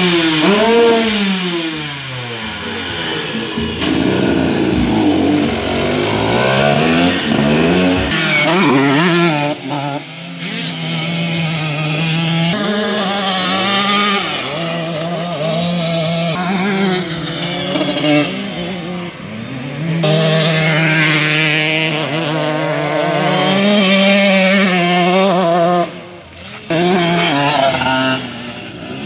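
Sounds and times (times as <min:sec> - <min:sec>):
two-stroke motorbike engine revving: 0:00.0 - 0:29.0.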